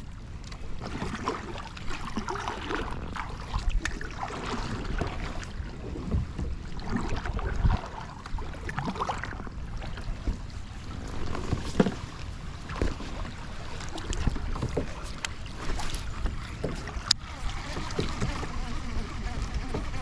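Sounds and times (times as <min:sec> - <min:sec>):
moving river water: 0:00.0 - 0:20.0.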